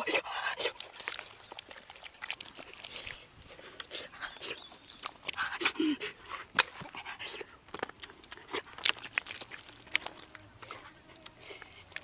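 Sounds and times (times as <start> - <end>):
hands squelching spice paste on skin: 0.6 - 12.0.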